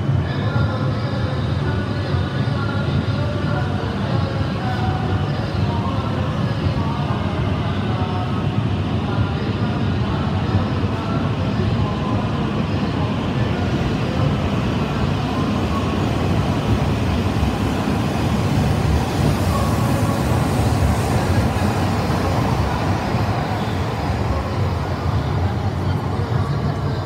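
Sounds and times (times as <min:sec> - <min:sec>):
train rumbling past platform: 0:00.0 - 0:27.0.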